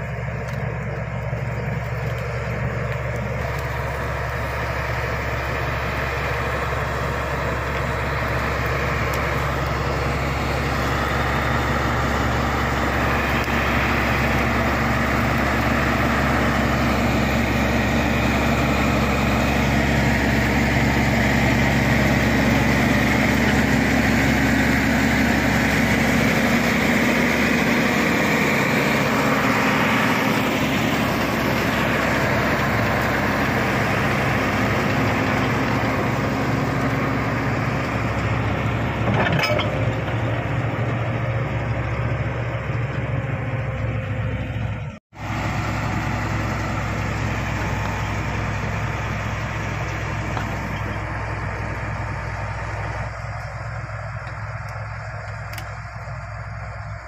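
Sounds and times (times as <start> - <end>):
bulldozer diesel engine running: 0.0 - 57.0
bulldozer pushing soil and brush: 0.0 - 57.0.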